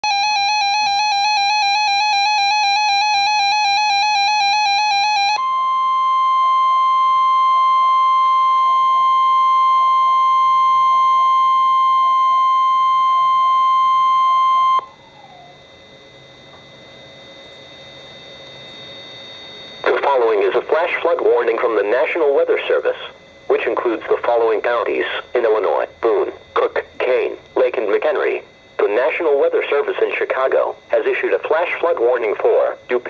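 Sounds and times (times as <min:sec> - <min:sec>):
rapidly pulsing alarm beep: 0:00.0 - 0:33.0
steady alarm tone: 0:00.0 - 0:33.0.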